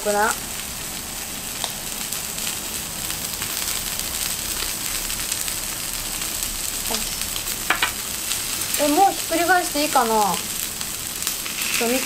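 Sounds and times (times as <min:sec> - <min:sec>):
steak sizzling on griddle: 0:00.0 - 0:12.0.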